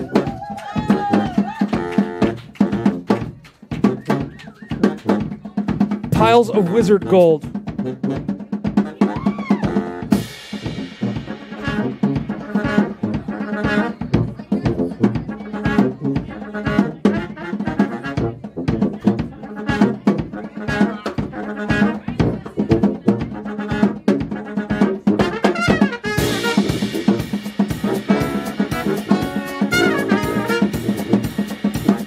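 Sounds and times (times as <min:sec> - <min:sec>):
baritone saxophone: 0:00.0 - 0:05.4, 0:07.8 - 0:32.0
trumpet: 0:00.0 - 0:05.4, 0:06.1 - 0:32.0
drum kit: 0:00.0 - 0:32.0
tuba: 0:00.0 - 0:32.0.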